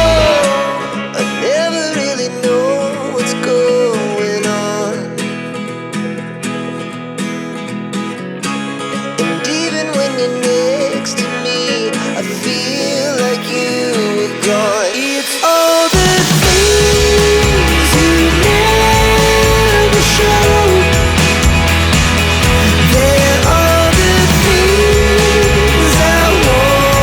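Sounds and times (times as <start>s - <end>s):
guitar song with steady beat: 0.0s - 27.0s.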